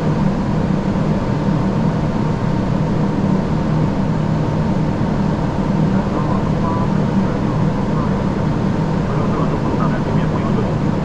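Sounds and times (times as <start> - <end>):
airflow and air conditioning rush: 0.0 - 11.0
low hum: 0.0 - 11.0.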